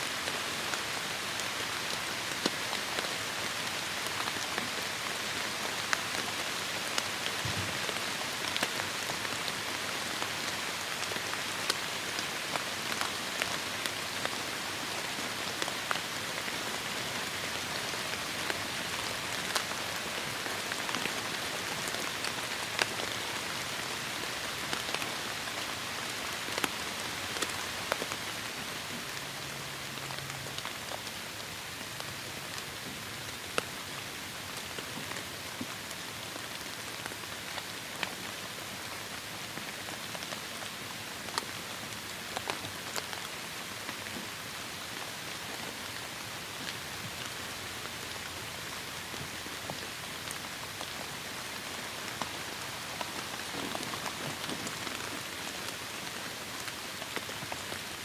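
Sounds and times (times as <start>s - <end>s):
raindrops ticking close by: 0.1s - 58.0s.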